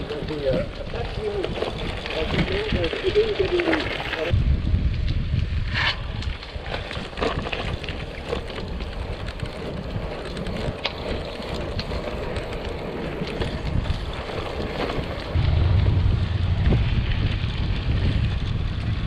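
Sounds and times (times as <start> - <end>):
bike clicks and rattles: 0.0 - 15.4, 16.6 - 19.0
bike tyres on road: 0.0 - 19.0.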